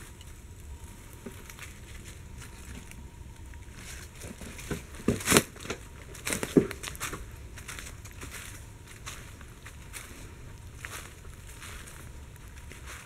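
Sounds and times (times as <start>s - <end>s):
footsteps crunching through dry leaves: 0.0s - 13.0s
steady low rumble: 0.0s - 13.0s.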